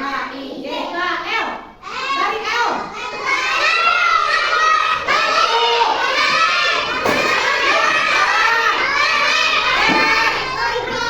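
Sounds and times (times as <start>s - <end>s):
children calling out: 1.8s - 11.0s.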